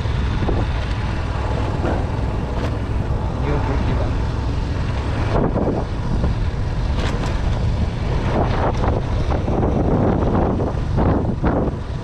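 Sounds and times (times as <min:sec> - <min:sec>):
motorcycle engine rumble: 0:00.0 - 0:12.0
wind buffeting microphone: 0:00.0 - 0:12.0.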